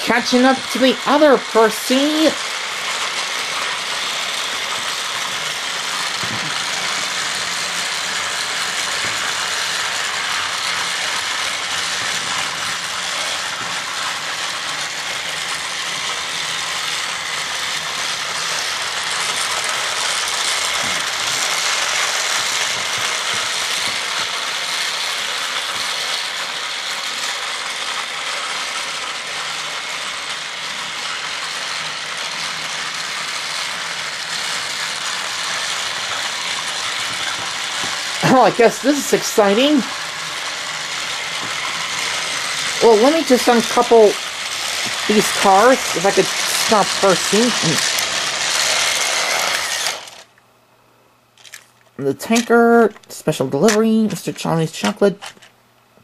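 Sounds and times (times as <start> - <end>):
toy train whirring and clatter: 0.0 - 50.4, 51.4 - 55.5.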